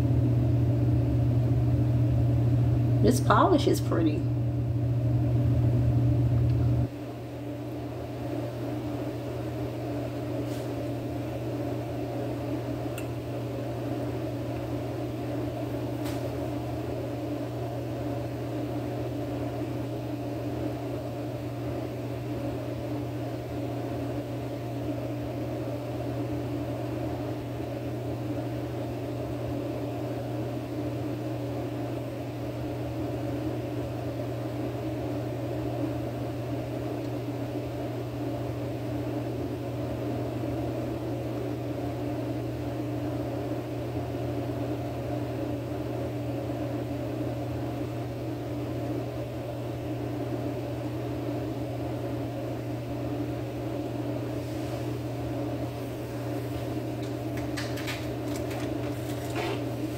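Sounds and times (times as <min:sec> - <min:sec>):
fan humming: 0:00.0 - 0:59.9.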